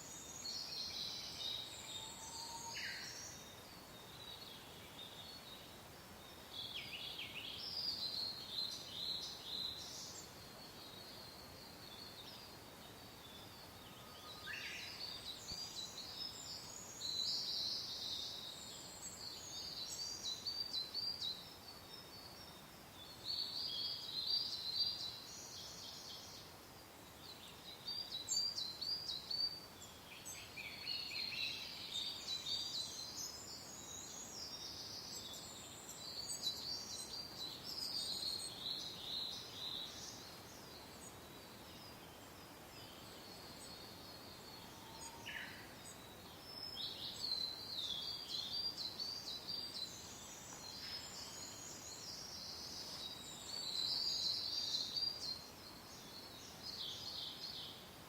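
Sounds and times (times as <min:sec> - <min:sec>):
faint soft wind hiss: 0:00.0 - 0:58.0
songbirds singing and chirping: 0:00.0 - 0:58.0.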